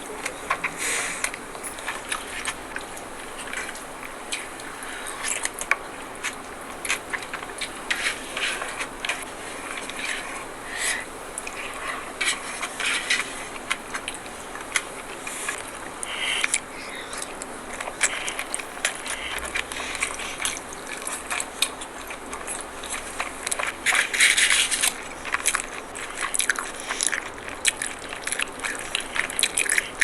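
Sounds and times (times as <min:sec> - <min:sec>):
chewing: 0:00.0 - 0:30.0
lip smacks: 0:00.0 - 0:30.0
wet mouth clicks: 0:00.0 - 0:30.0.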